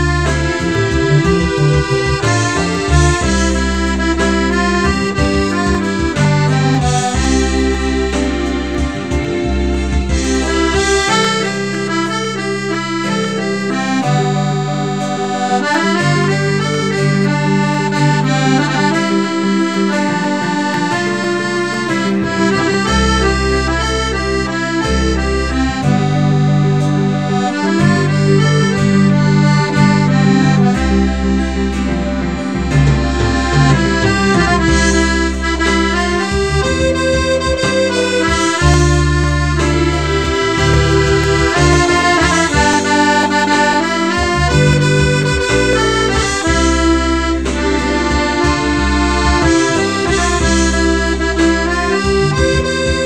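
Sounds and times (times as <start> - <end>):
accordion held bass notes: 0.0 - 53.0
accordion melody: 0.0 - 53.0.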